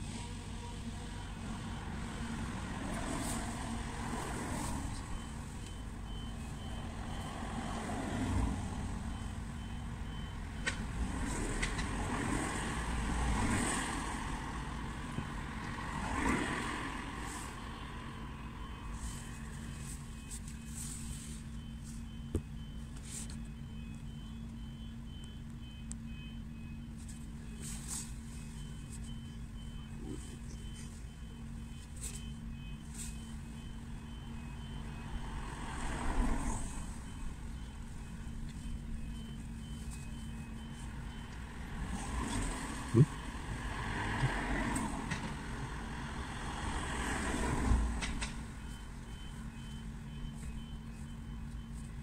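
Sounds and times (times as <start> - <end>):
road traffic: 0.0 - 52.0
reversing alarm beeping: 0.3 - 52.0.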